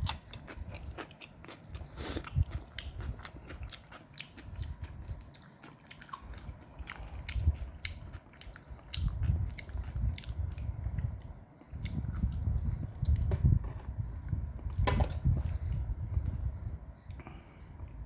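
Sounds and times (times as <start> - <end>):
wet chewing: 0.0 - 16.5.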